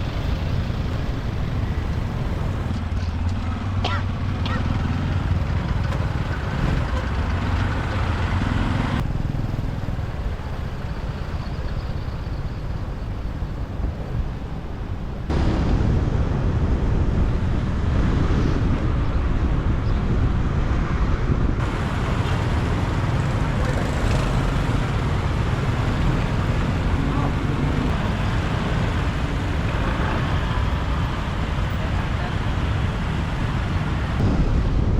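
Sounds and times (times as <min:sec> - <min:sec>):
motorbike engine and road rumble: 0:00.0 - 0:34.9
surrounding traffic: 0:00.0 - 0:34.9.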